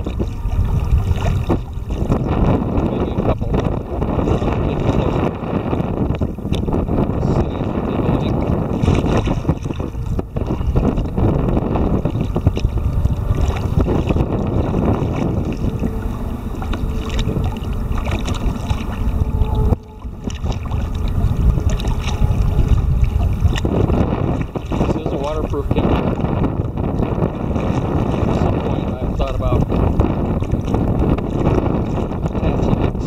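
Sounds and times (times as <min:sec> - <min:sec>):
wind buffeting the microphone: 0:00.0 - 0:33.0.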